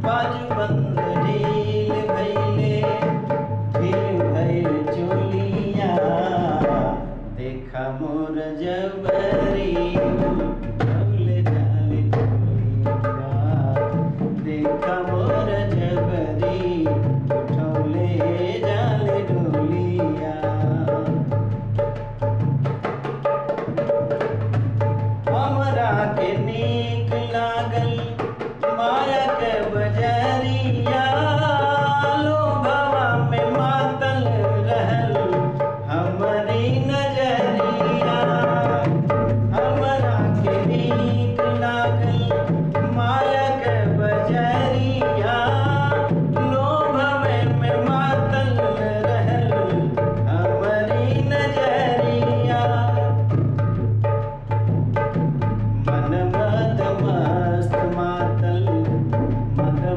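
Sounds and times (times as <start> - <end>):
hand drum folk rhythm: 0.0 - 7.3, 9.0 - 59.9.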